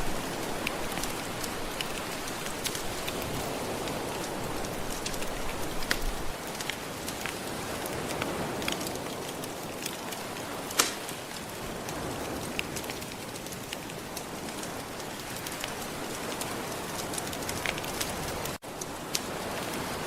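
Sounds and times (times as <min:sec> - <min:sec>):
fireplace crackling and popping: 0:00.0 - 0:20.0
gentle ocean waves: 0:00.0 - 0:20.0.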